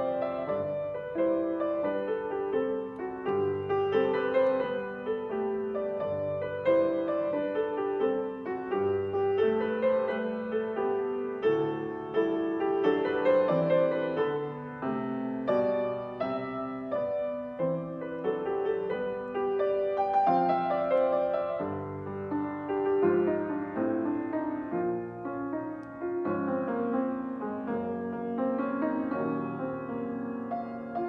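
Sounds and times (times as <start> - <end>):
solo piano carol: 0.0 - 31.0.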